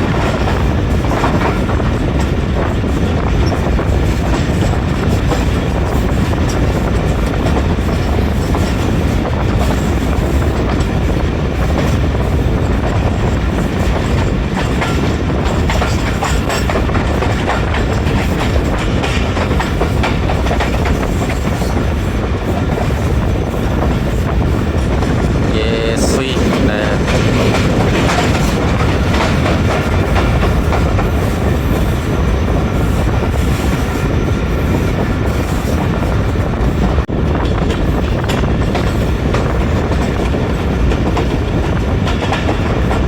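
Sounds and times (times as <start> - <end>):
clickety-clack of rail joints: 0.0 - 43.0
train wheels rumbling on rails: 0.0 - 43.0.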